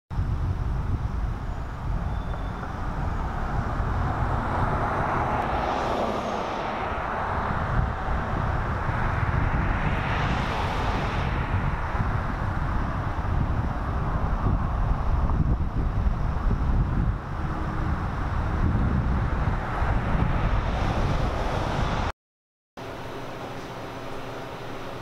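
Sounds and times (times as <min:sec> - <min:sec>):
steady low rumble: 0:00.1 - 0:22.1
vehicles passing: 0:00.2 - 0:22.1.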